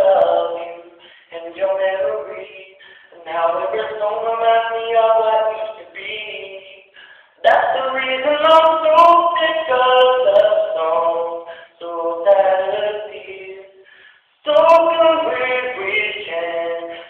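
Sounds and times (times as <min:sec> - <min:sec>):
man singing a cappella: 0:00.0 - 0:17.0.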